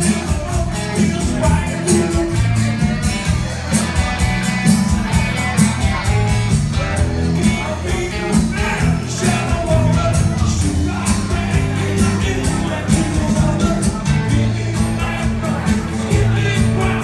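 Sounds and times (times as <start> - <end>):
acoustic guitar: 0.0 - 17.0
drums: 0.0 - 17.0
electric bass: 0.0 - 17.0
electric guitar: 0.0 - 17.0.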